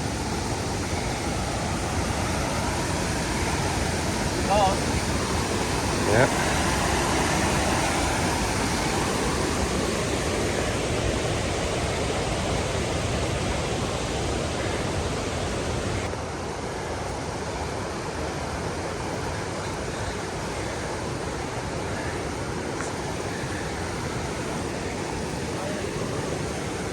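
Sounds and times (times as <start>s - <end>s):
rushing water roar: 0.0s - 26.9s.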